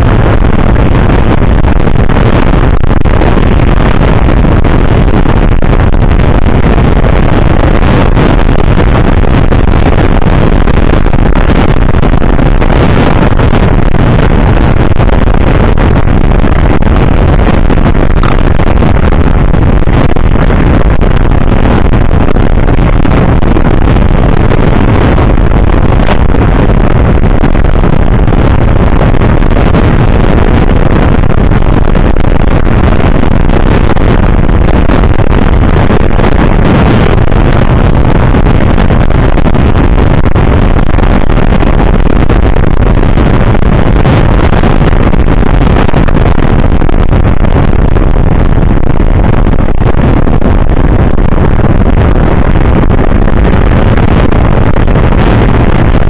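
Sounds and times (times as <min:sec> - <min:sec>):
wind rushing: 0:00.0 - 0:56.0.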